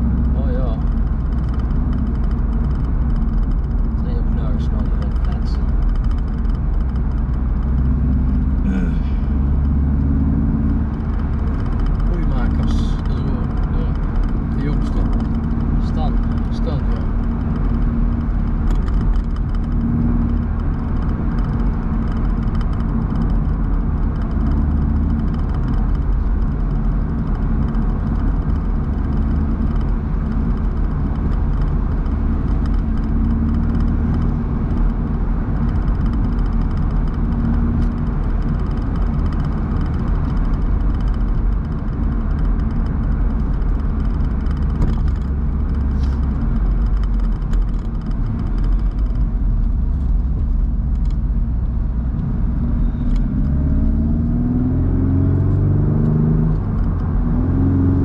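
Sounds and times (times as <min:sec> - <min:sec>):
car engine drone: 0:00.0 - 0:58.0
road and wind noise: 0:00.0 - 0:58.0.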